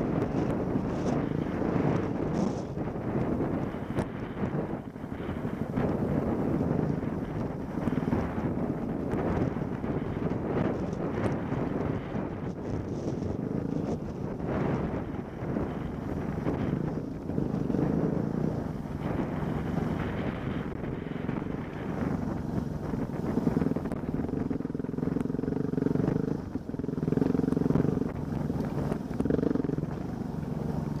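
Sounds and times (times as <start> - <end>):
off-road vehicle engine running: 0.0 - 31.0.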